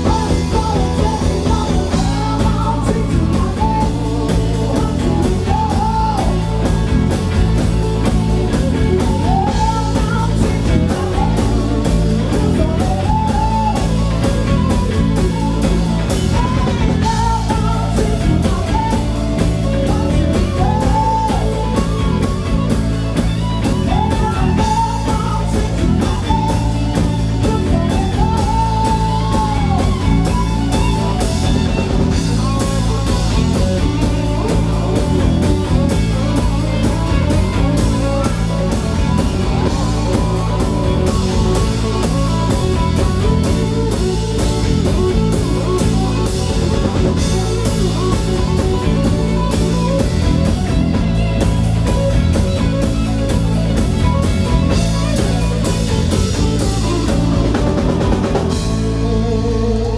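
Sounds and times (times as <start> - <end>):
woman singing: 0.0 - 7.1, 8.4 - 22.7, 23.3 - 50.1
drum kit beat: 0.0 - 59.9
rock band playing: 0.0 - 59.9.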